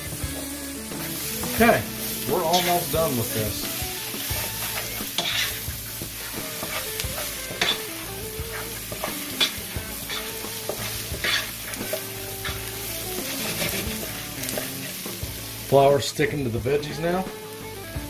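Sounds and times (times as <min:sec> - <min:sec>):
spatula scraping a skillet: 0:00.0 - 0:15.3
light sizzle: 0:00.0 - 0:18.0.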